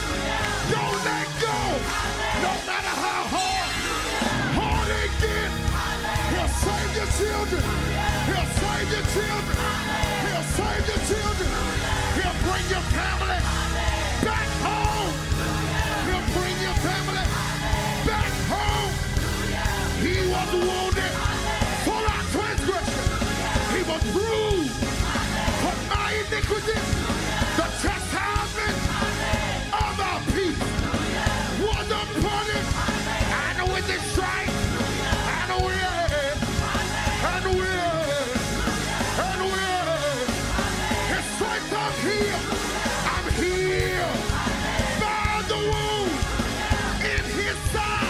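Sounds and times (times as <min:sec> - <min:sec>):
bass: 0:00.0 - 0:48.0
choir singing: 0:00.0 - 0:48.0
drum beat: 0:00.0 - 0:48.0
lead singer vocal runs: 0:00.0 - 0:48.0.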